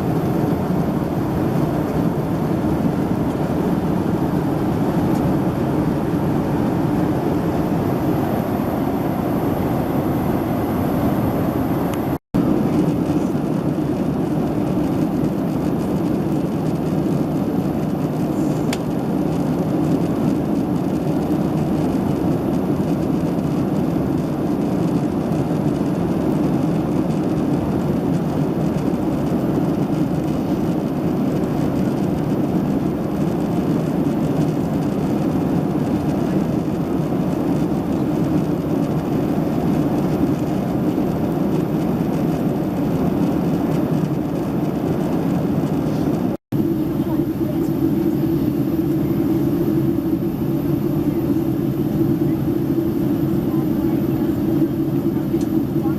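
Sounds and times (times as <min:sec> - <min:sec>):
airplane cabin drone: 0:00.0 - 0:55.9.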